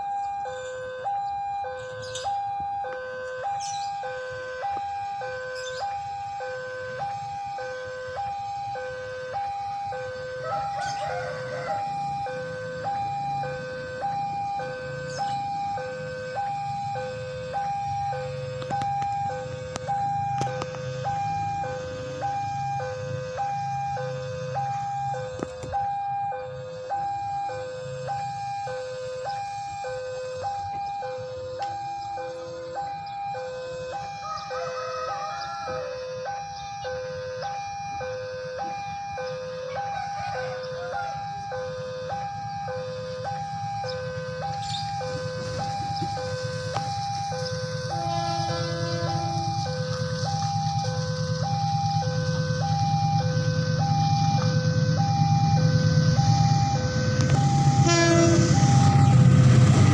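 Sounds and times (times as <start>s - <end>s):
level crossing two-tone alarm: 0.0s - 59.9s.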